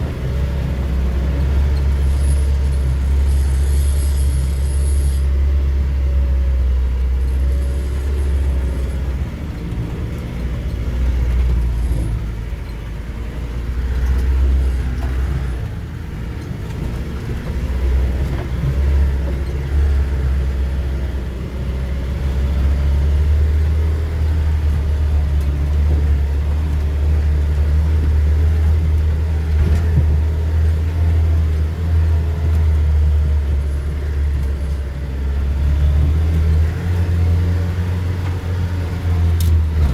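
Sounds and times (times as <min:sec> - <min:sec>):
off-road vehicle engine rumble: 0:00.0 - 0:39.9.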